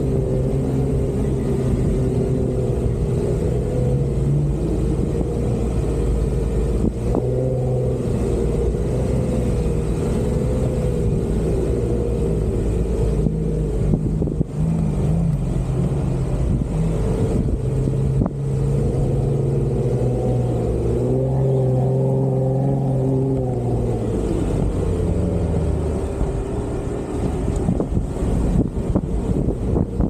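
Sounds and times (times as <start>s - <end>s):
car engine revving off-road: 0.0s - 30.0s.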